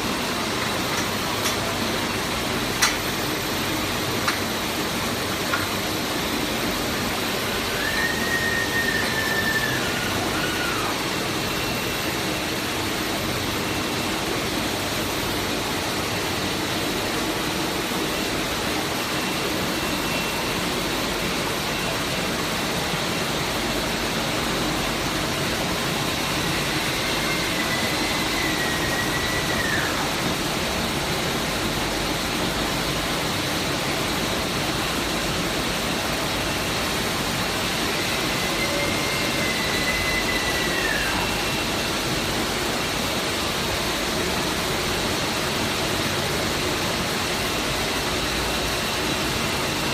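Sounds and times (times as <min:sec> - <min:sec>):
filling machine hum and hiss: 0:00.0 - 0:49.9.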